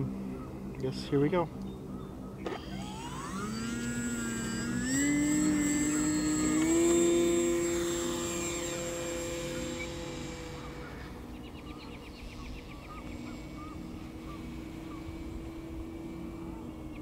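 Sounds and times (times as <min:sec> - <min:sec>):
electric motor propeller whine: 0:00.0 - 0:17.0.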